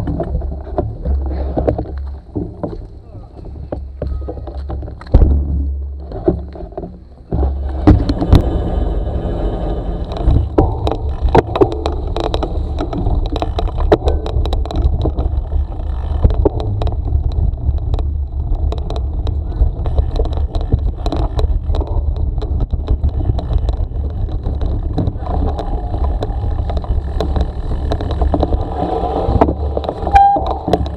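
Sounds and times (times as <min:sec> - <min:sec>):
bicycle rattling and clicking: 0:00.0 - 0:30.9
wind rumbling on microphone: 0:00.0 - 0:30.9.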